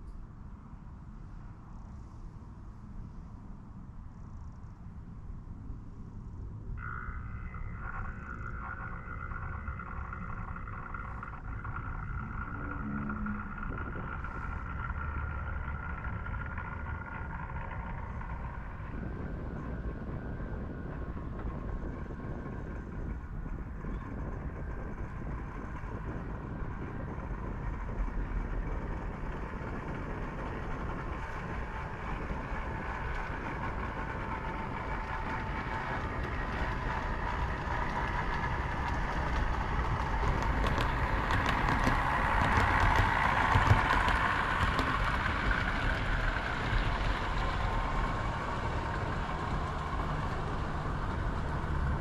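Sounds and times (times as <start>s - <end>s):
model train running on track: 6.8s - 52.0s
wheels clicking over rail joints: 6.8s - 52.0s.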